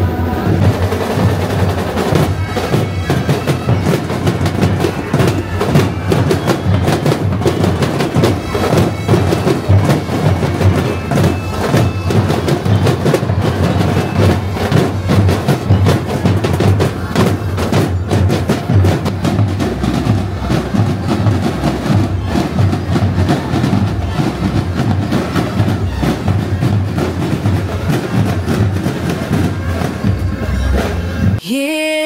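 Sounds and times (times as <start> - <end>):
marching drum corps: 0.0 - 31.4.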